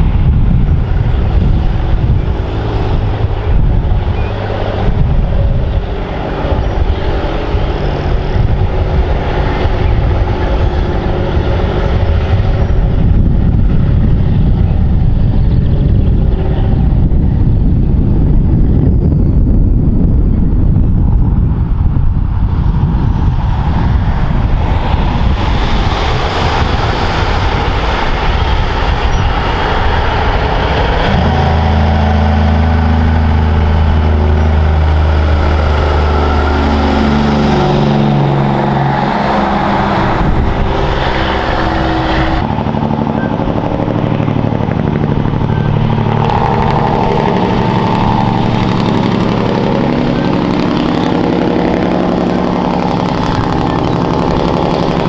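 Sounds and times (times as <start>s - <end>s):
truck diesel engine passing: 0.0s - 55.0s
wind noise on microphone: 0.0s - 55.0s.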